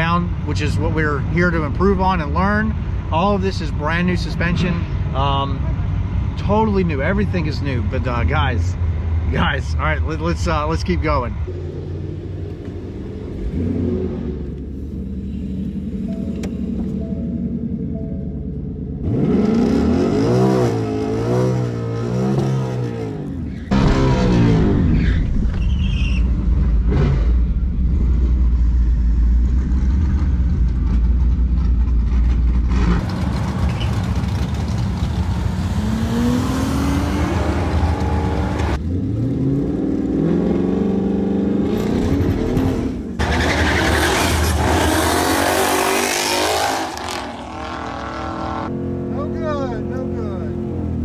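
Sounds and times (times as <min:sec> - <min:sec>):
car engine revving: 0:09.2 - 0:51.0.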